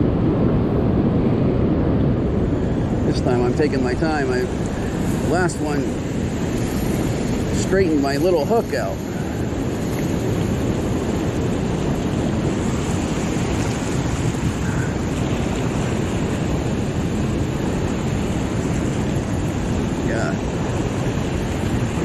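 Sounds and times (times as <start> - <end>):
water rushing through spillway: 0.2 - 22.0.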